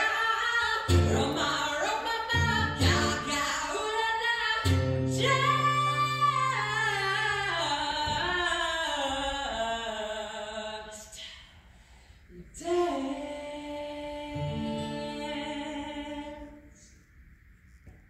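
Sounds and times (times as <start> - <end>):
a cappella voices singing chords: 0.0 - 11.6, 12.3 - 17.0.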